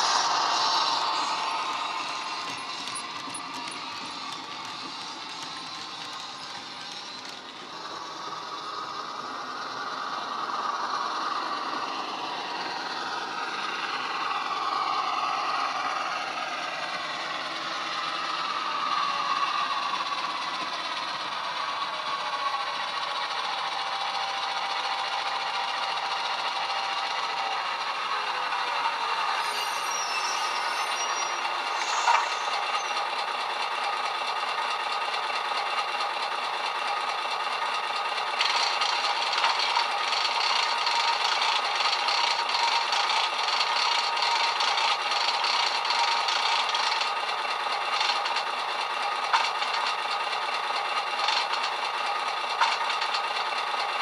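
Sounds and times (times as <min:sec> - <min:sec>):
diesel engine sound from small speaker: 0:00.0 - 0:54.0.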